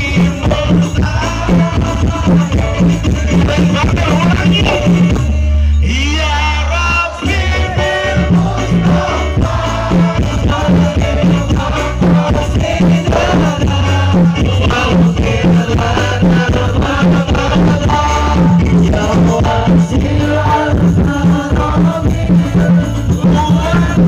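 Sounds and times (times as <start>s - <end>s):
music over sound system: 0.0s - 24.0s.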